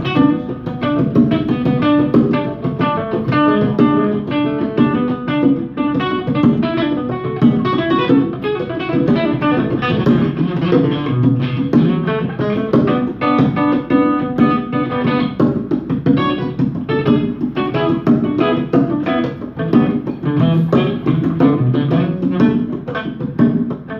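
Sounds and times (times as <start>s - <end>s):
acoustic guitar picking runs: 0.0s - 23.9s
conga drums: 0.0s - 23.9s.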